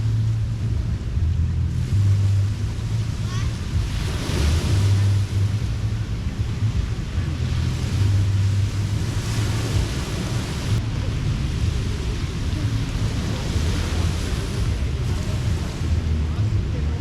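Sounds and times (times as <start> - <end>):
constant low rumble: 0.0 - 17.0
surf washing onto beach: 0.0 - 17.0.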